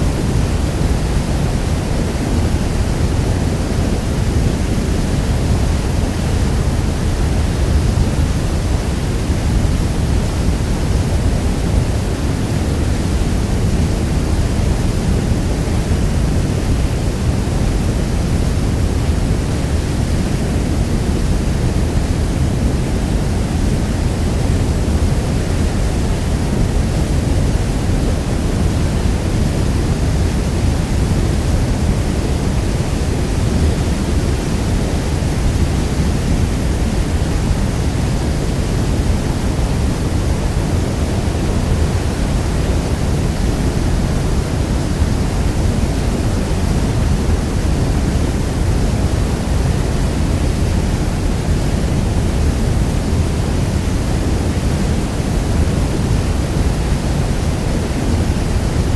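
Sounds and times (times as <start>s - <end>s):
huge waterfall rushing: 0.0s - 58.9s.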